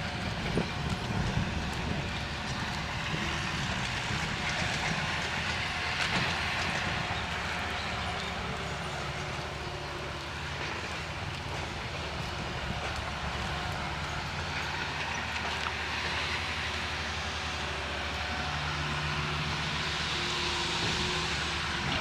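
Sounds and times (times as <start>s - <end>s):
heavy engine droning: 0.0s - 22.0s.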